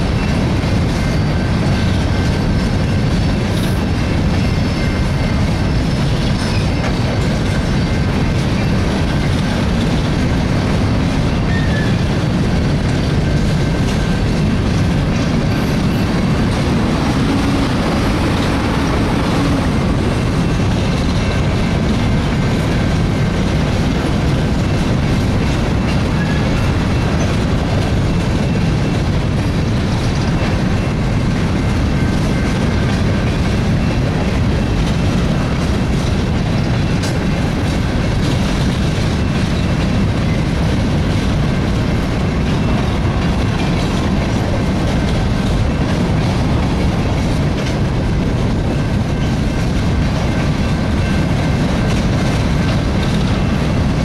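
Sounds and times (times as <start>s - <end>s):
clickety-clack over rail joints: 0.0s - 54.0s
train wheels rumbling on rail: 0.0s - 54.0s.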